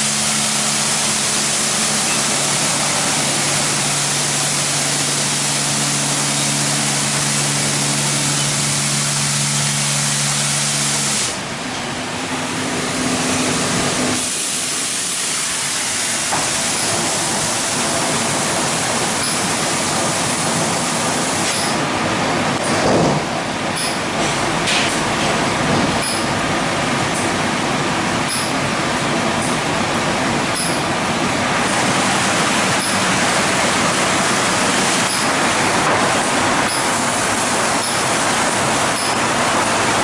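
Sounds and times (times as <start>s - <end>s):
pump and gantry hum: 0.0s - 40.0s.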